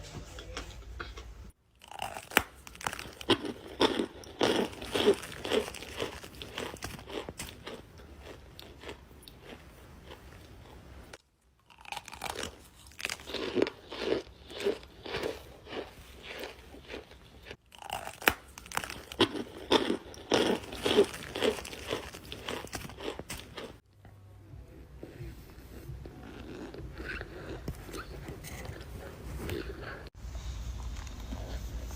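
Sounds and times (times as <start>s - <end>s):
crunchy chewing: 1.8s - 24.0s, 25.0s - 30.1s.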